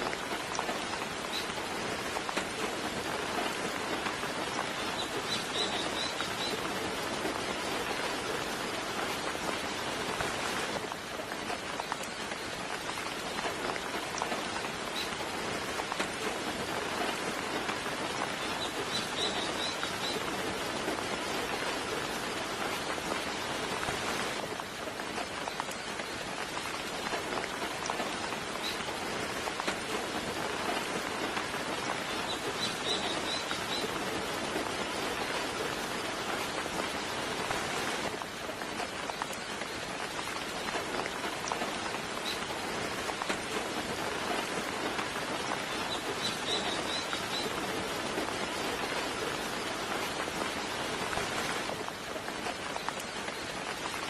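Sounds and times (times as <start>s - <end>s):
soft rain pattering: 0.0s - 54.0s.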